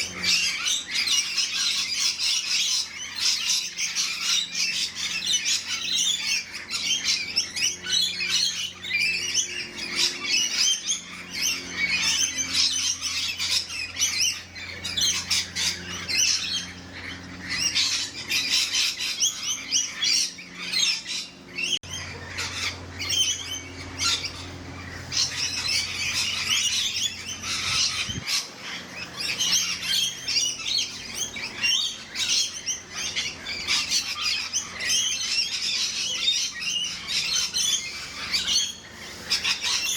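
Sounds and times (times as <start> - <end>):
flock of parrots screeching and chattering: 0.0 - 39.9.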